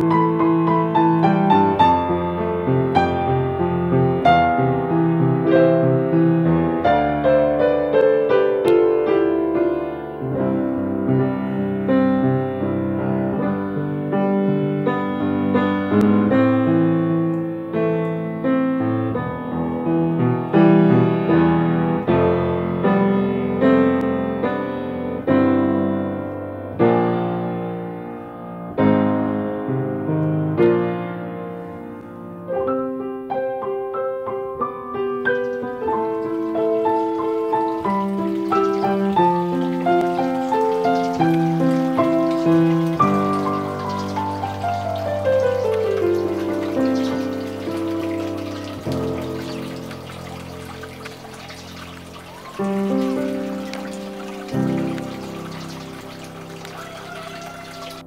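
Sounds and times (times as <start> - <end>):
solo piano music: 0.0 - 58.0.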